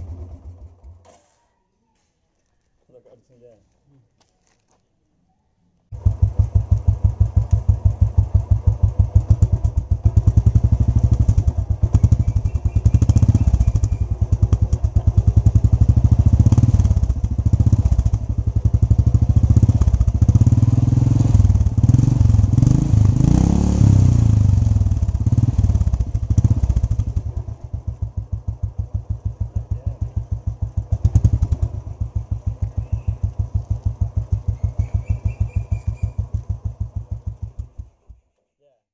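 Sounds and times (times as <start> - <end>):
motorcycle engine revving and idling: 0.0 - 1.1, 5.9 - 38.3.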